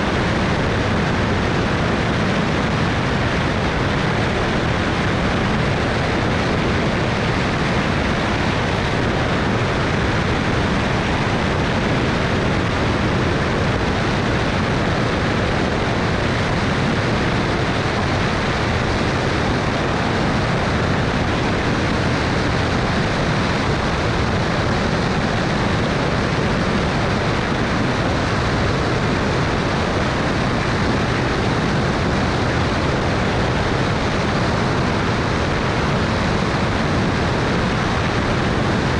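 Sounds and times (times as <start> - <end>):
plane engine and wind roar: 0.0 - 38.9.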